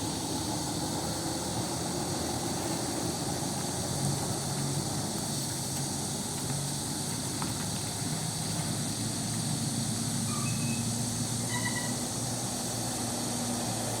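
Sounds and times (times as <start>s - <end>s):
constant hiss: 0.0s - 14.0s
vehicle engine running: 0.0s - 14.0s.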